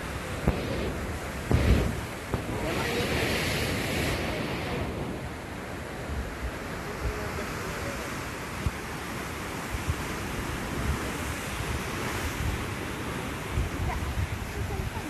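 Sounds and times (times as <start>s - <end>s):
sea waves washing onto shore: 0.0s - 15.0s
wind buffeting microphone: 0.0s - 15.0s.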